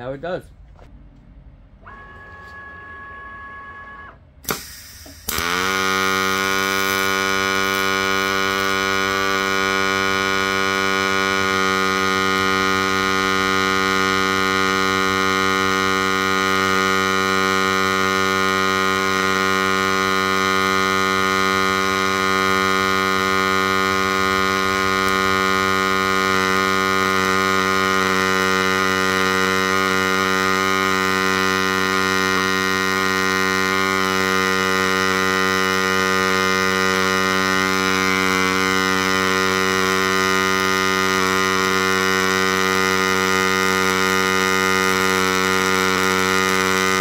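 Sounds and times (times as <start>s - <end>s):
welder arc humming: 1.8s - 47.0s.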